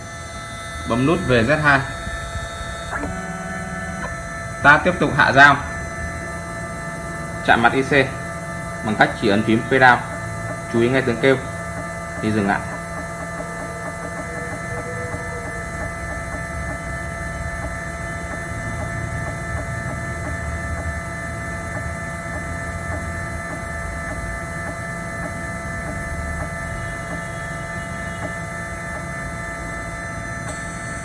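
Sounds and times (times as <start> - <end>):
machine motor whine: 0.0 - 31.0.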